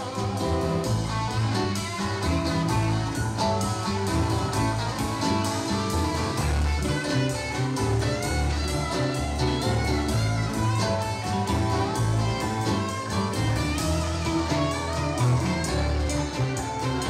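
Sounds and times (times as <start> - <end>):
blues band playing: 0.0 - 17.0.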